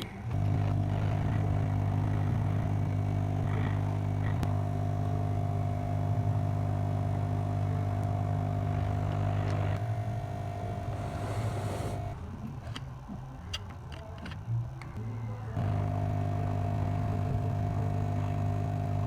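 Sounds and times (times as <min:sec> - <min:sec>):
hot air blower running: 0:00.0 - 0:12.4, 0:15.6 - 0:19.0.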